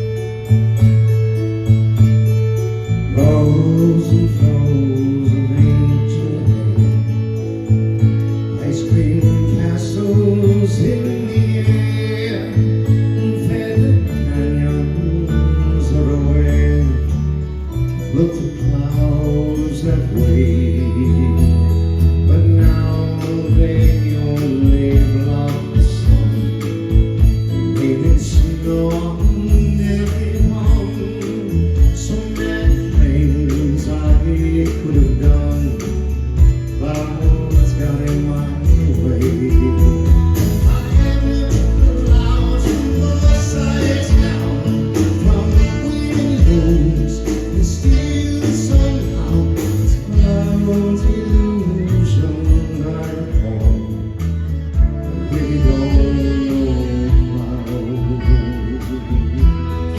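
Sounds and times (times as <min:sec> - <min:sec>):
heavy bass line: 0:00.0 - 0:59.9
live band music: 0:00.0 - 0:59.9.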